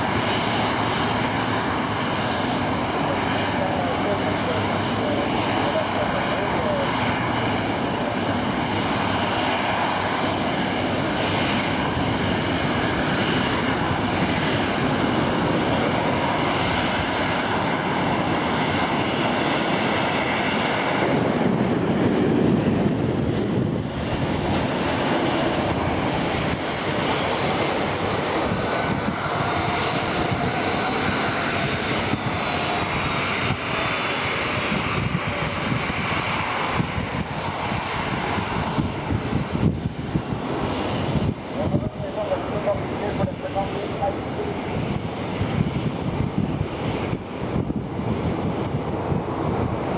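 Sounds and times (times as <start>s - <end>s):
jet engine roar with fan whine: 0.0s - 49.9s.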